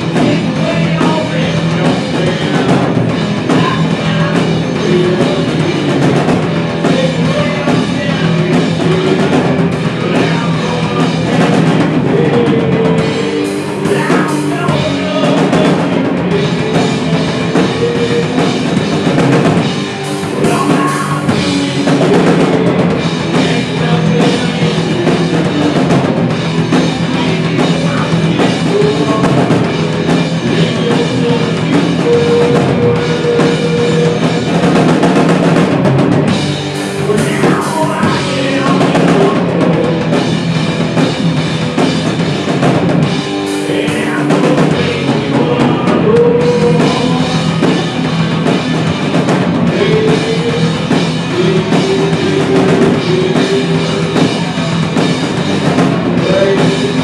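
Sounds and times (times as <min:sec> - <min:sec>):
person singing through pa: 0:00.0 - 0:35.1, 0:36.8 - 0:40.4, 0:43.5 - 0:57.0
distorted electric guitar: 0:00.0 - 0:57.0
drum kit: 0:00.0 - 0:57.0.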